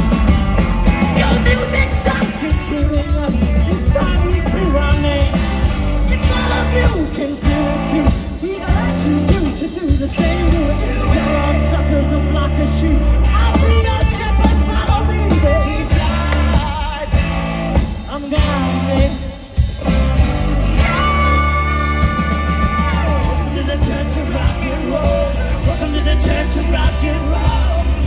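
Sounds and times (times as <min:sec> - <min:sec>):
drums: 0:00.0 - 0:28.0
electric guitars: 0:00.0 - 0:28.0
lead singer: 0:00.0 - 0:28.0.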